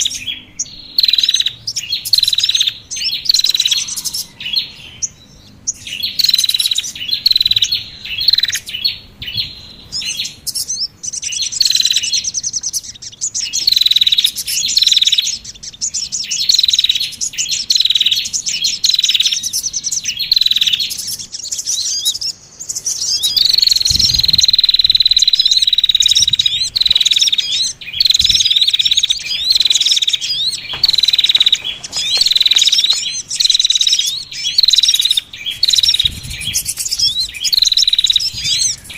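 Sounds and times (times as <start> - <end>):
bird trill: 0.0 - 38.9
songbirds chirping: 0.0 - 38.9.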